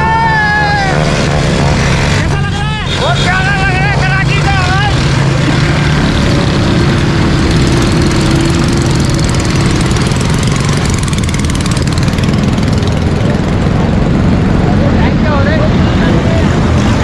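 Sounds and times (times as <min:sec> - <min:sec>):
vehicle engines running: 0:00.0 - 0:17.0.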